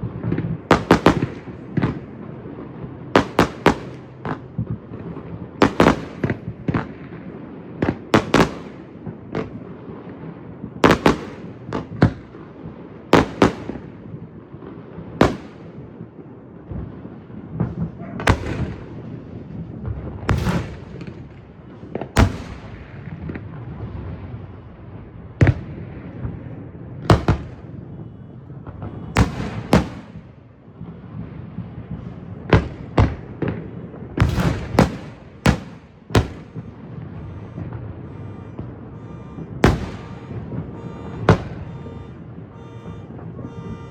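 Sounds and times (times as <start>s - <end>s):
continuous low rumble: 0.0s - 43.9s
fireworks bangs: 0.0s - 43.9s.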